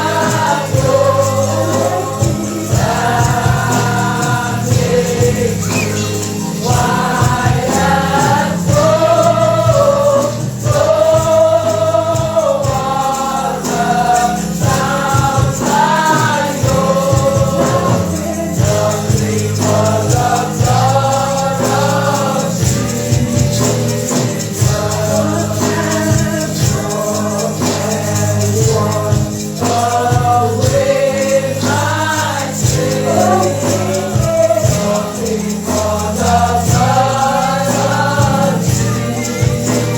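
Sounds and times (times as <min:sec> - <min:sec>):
gospel singing with band: 0:00.0 - 0:39.9
tambourine shaking: 0:00.0 - 0:39.9.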